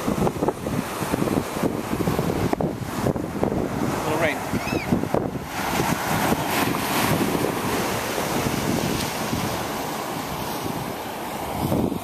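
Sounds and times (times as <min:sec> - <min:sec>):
ocean surf on sandy beach: 0:00.0 - 0:12.0
wind buffeting microphone: 0:00.0 - 0:12.0.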